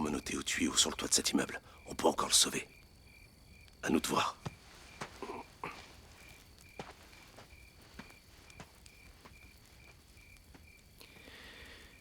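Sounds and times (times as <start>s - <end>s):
campfire crackles: 0.0s - 12.0s
crickets chirping: 0.0s - 12.0s
insect trill: 0.0s - 12.0s.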